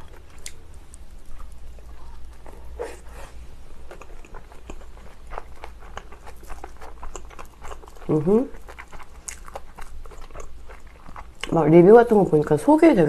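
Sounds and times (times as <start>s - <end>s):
chewing with wet mouth clicks: 0.0s - 2.8s, 3.8s - 11.6s.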